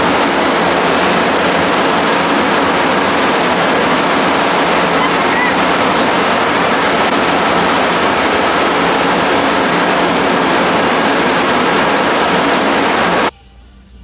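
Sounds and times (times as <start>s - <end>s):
loud steady rushing noise: 0.0s - 13.3s.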